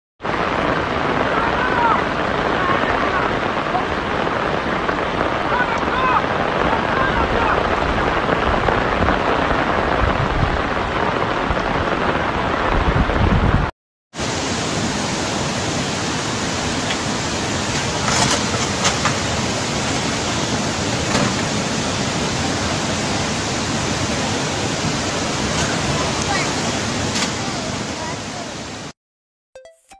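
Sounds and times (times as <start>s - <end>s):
floodwater rushing: 0.2s - 12.7s, 14.2s - 29.0s
rain falling: 0.2s - 29.0s.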